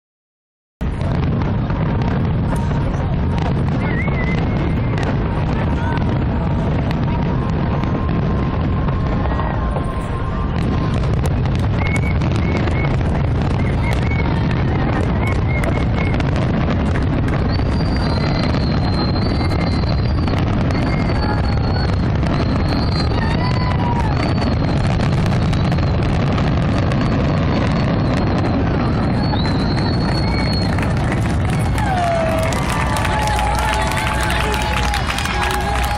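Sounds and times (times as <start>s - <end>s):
crowd chatter: 0.8s - 35.9s
fireworks booming and crackling: 0.8s - 35.9s
wind rumble on microphone: 0.8s - 35.9s
firework whistles: 1.0s - 35.9s.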